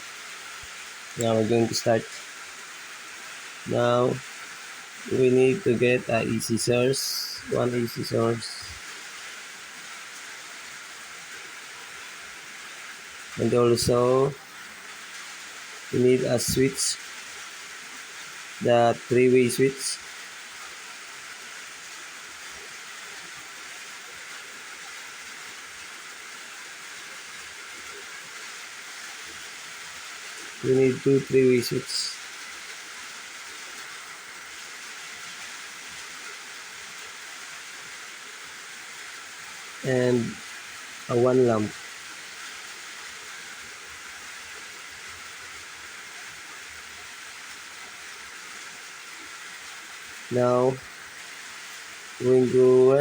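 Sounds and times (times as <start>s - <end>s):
microphone hiss: 0.0s - 53.0s.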